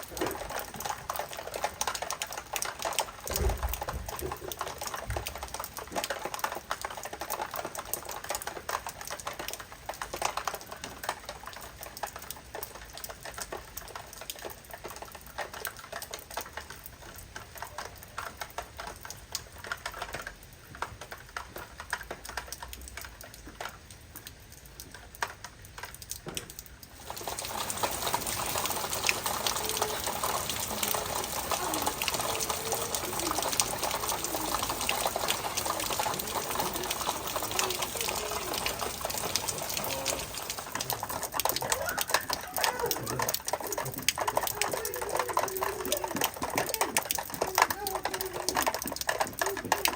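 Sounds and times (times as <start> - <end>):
heavy rain on a hard surface: 0.0 - 49.9.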